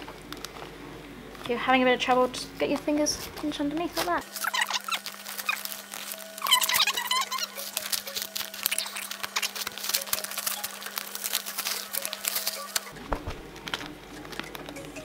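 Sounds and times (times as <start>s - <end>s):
duct tape crackling peeled off: 2.7s - 15.0s.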